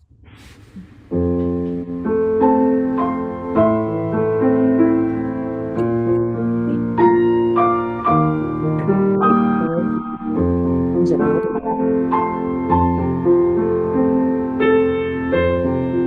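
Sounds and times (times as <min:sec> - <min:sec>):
keyboard playing slow chords: 0:01.2 - 0:16.0.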